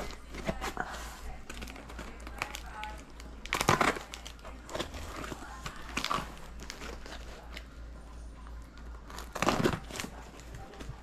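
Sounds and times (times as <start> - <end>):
plastic wrap and tape crinkling: 0.0 - 7.8, 8.4 - 11.0.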